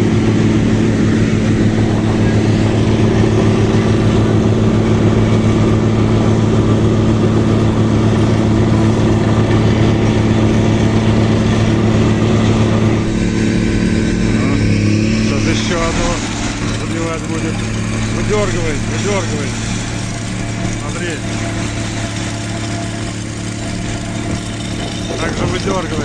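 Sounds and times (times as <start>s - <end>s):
vibratory pile driver humming: 0.0s - 26.0s.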